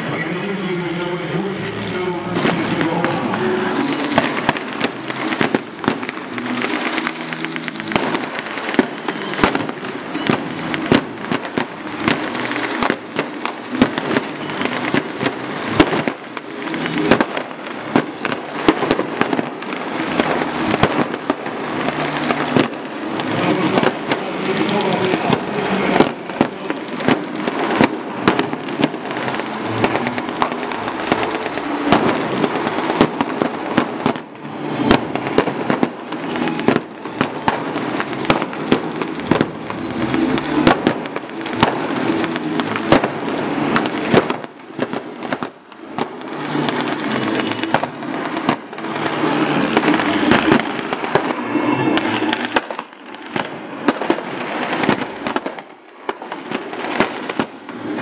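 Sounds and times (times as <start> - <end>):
crowd noise: 0.0 - 58.0.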